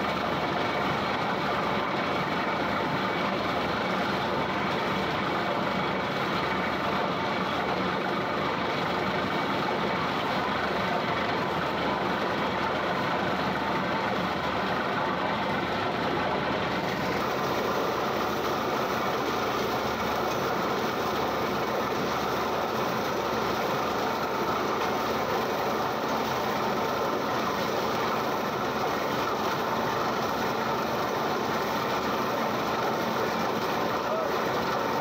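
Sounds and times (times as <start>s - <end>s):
drilling rig running: 0.0s - 35.0s.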